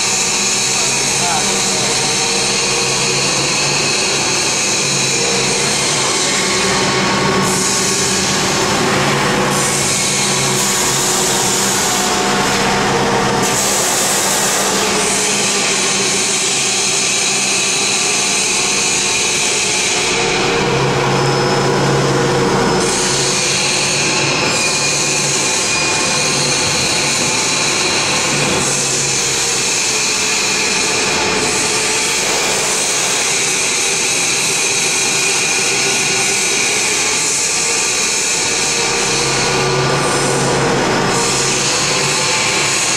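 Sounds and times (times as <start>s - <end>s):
machine line running: 0.0s - 42.9s.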